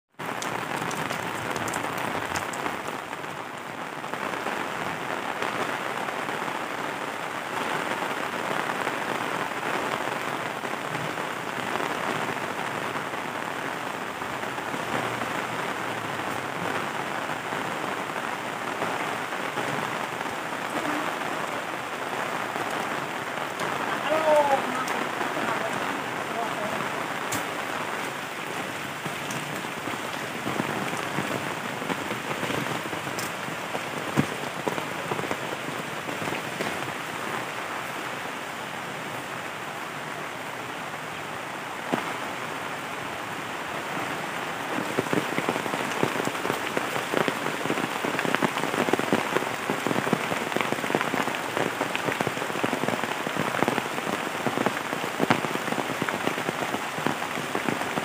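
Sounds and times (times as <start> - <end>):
steady rain on trees: 0.1 - 58.0.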